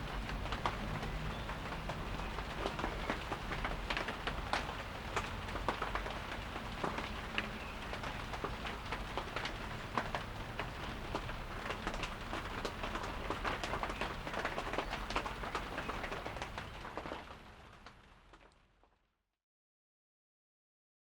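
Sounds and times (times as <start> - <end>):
steady rain patter: 0.0 - 19.0
rain drops ticking on surfaces: 0.0 - 19.1.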